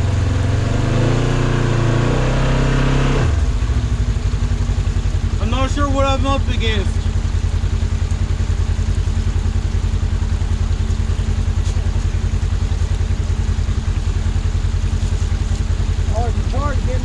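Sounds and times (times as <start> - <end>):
engine running at low speed: 0.0 - 17.0.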